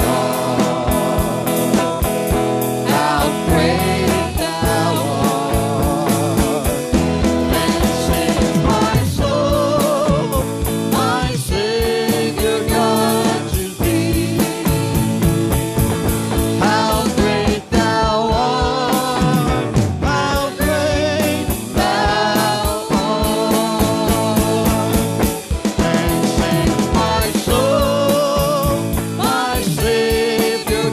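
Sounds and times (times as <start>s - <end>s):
band beat: 0.0s - 30.9s
worship music with singing: 0.0s - 30.9s.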